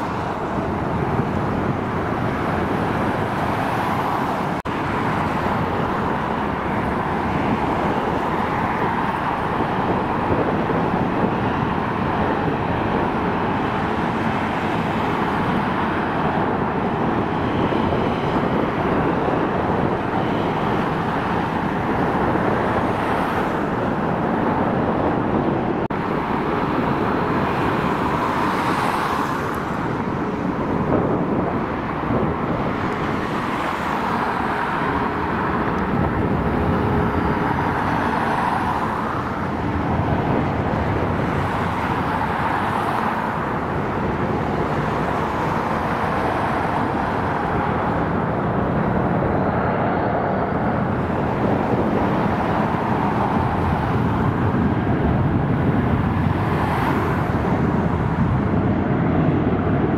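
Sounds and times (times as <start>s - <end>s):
jet engines taxiing: 0.0s - 59.9s
road traffic: 0.0s - 59.9s.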